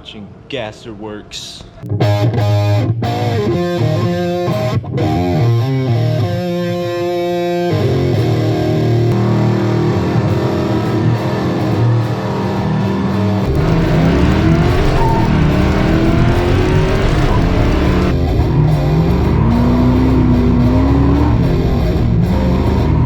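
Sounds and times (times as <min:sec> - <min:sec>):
electric guitar music: 0:01.8 - 0:23.0.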